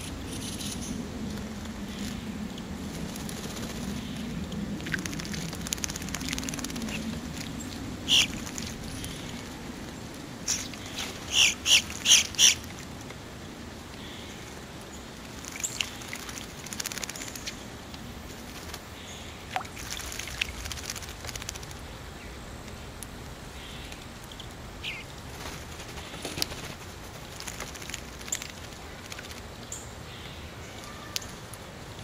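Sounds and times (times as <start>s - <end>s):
birds fluttering wings in water: 0.2s - 22.0s, 23.8s - 31.6s.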